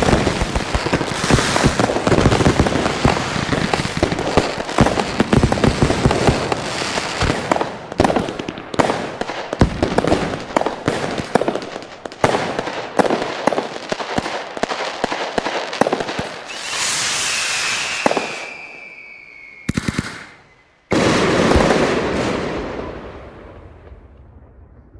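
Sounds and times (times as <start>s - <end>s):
whistling firework: 0.0s - 12.5s, 15.8s - 24.9s
firecrackers crackling bangs: 0.0s - 24.5s.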